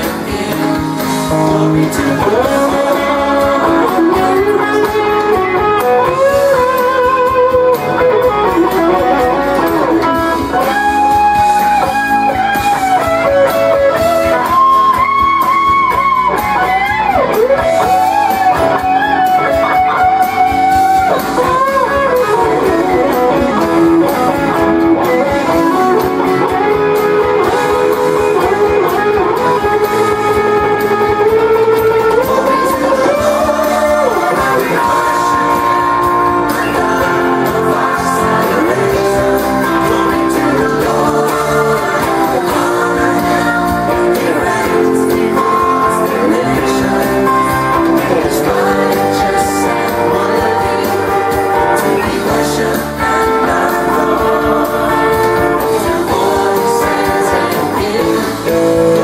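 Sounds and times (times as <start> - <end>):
electric guitar lead: 0.0 - 59.0
full band backing track: 0.0 - 59.0.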